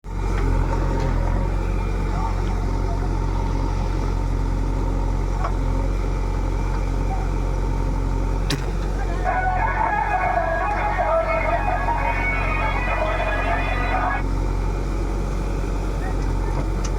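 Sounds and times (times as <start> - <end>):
heavy machine engine running: 0.0 - 16.9.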